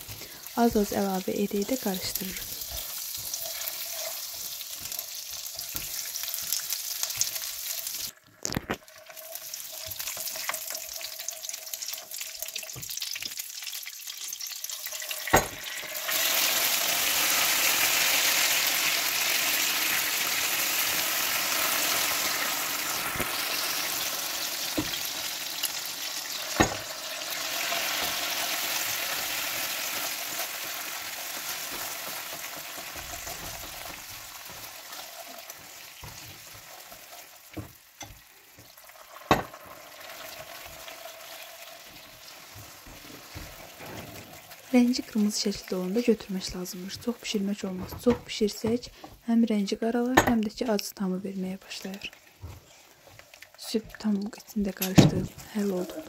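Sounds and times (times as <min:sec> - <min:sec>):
caramel sizzling in a pan: 0:00.0 - 0:47.4.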